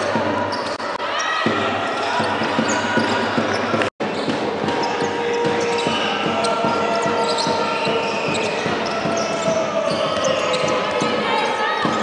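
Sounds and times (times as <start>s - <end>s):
crowd noise: 0.0s - 12.0s.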